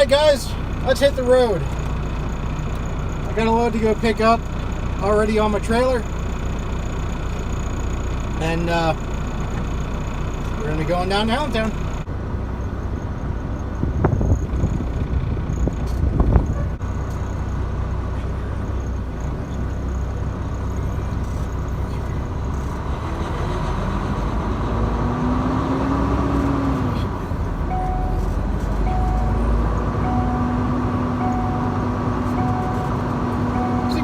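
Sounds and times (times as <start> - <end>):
truck engine and road rumble: 0.0 - 34.0.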